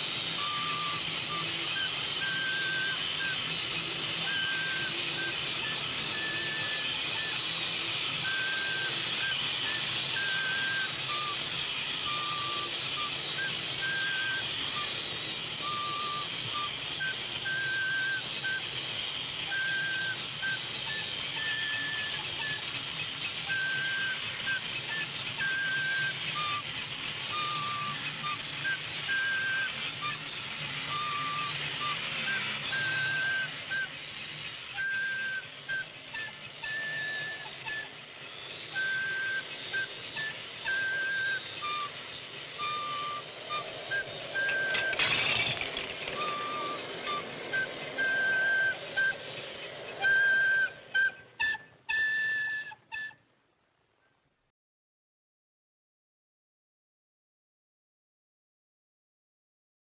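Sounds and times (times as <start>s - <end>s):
flute playing slow tune: 0.0s - 53.3s
film soundtrack hiss and hum: 0.0s - 54.5s.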